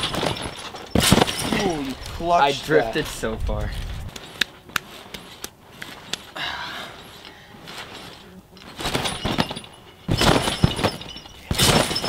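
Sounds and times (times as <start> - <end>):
trampoline springs thumping and rattling: 0.0 - 12.0.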